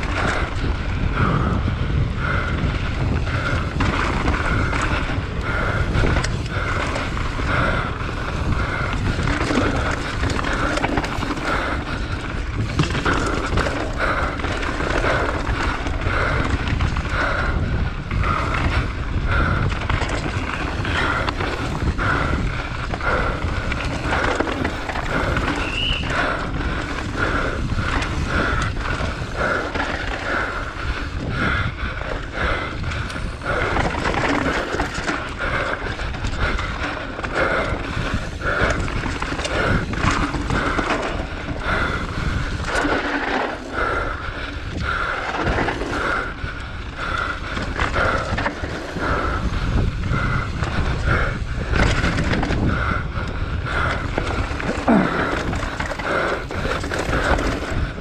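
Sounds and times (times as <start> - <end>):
bike rattling over bumps: 0.0 - 58.0
bike tyres on loose dirt: 0.0 - 58.0
wind on microphone: 0.0 - 58.0.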